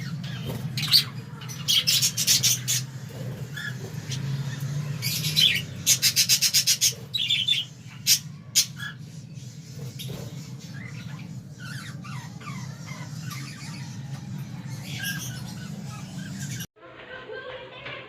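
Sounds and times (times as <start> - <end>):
budgerigars chirping and squawking: 0.0 - 16.7.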